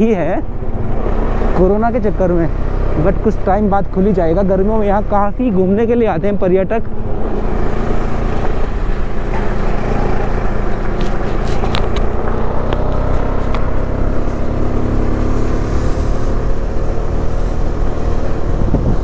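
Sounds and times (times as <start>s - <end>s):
motorcycle engine cruising: 0.0s - 19.0s
road noise: 0.0s - 19.0s.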